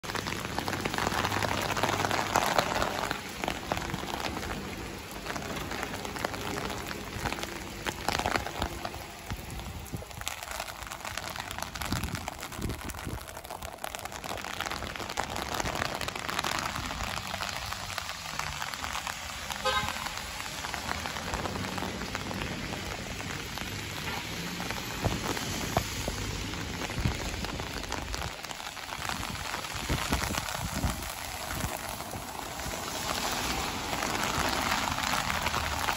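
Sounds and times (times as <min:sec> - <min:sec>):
rain on wet pavement: 0:00.0 - 0:35.9.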